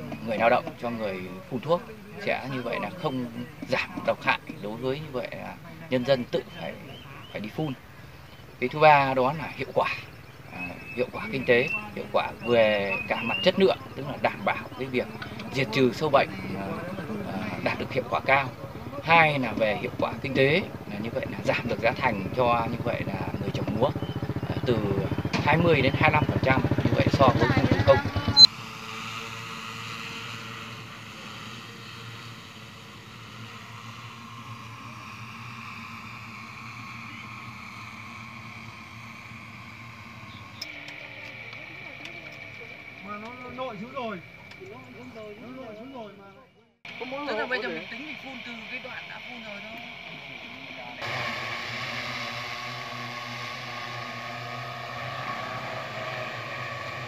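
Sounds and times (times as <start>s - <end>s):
drone propeller hum: 0.0s - 57.0s.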